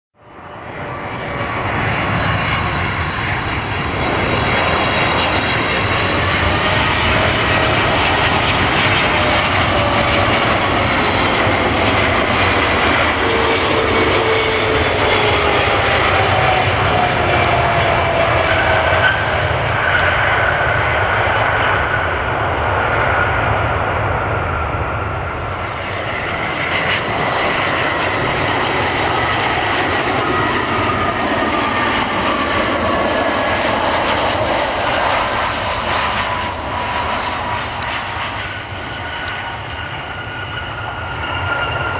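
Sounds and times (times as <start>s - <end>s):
jet engines roaring and whining: 0.2s - 41.9s.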